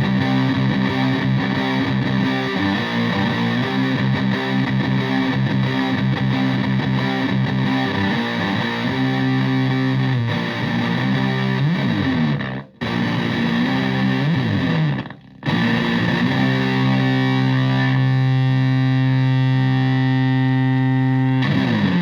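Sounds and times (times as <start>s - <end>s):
fuzzy electric guitar chords: 0.0s - 22.0s.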